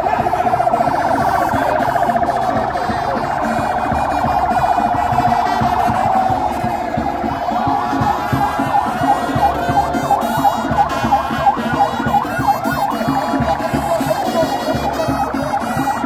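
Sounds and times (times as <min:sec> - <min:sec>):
music with low beat: 0:00.0 - 0:16.0
siren yelping: 0:00.0 - 0:16.0.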